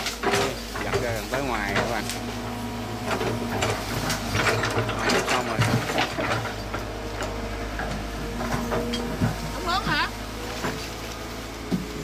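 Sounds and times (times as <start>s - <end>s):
branches crackling and snapping: 0.0s - 12.0s
excavator diesel engine running: 0.0s - 12.0s.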